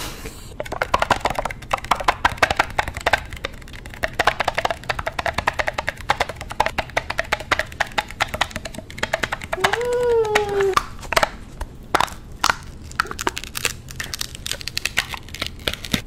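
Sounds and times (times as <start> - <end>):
chewing crunchy food: 0.6 - 6.9, 7.7 - 16.0.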